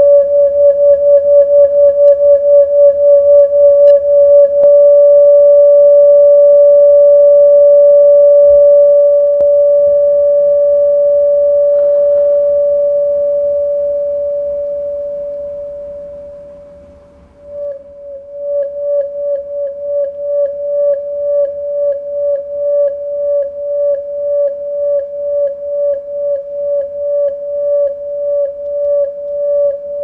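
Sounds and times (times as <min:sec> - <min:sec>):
singing tube steady tone: 0:00.0 - 0:30.0.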